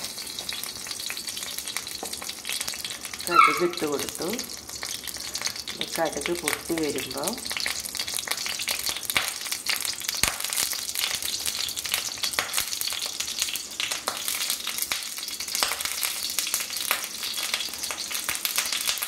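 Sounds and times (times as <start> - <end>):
oil sizzling: 0.0 - 19.0.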